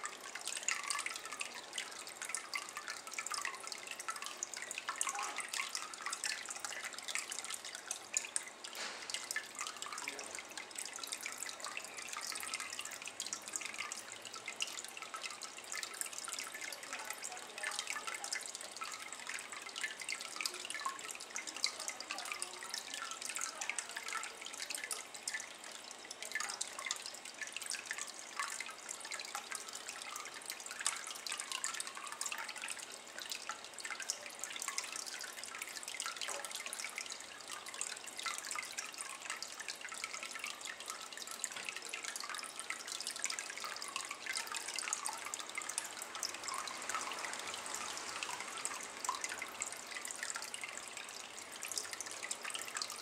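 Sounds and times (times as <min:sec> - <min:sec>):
water trickling into a basin: 0:00.0 - 0:53.0.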